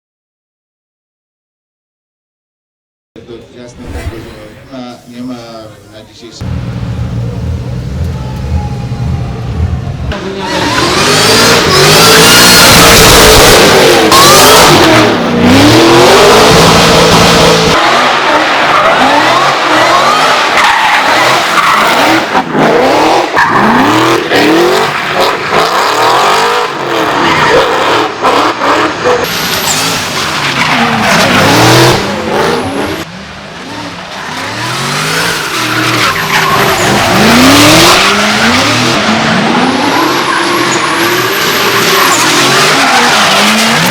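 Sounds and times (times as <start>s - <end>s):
car engine revving: 3.7s - 43.9s
tyres squealing and skidding: 7.9s - 43.9s.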